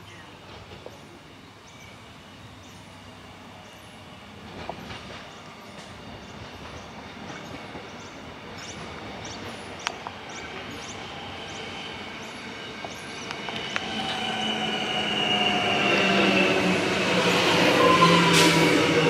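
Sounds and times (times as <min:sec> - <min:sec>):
train wheels rumbling on rail: 0:00.1 - 0:01.4, 0:03.5 - 0:19.0.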